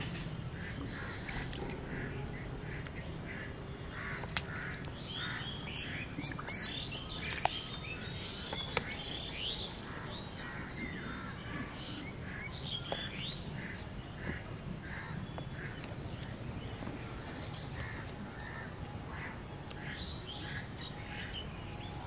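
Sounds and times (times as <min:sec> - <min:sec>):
low outdoor noise: 0:00.0 - 0:22.0
small birds chirping: 0:00.5 - 0:18.2.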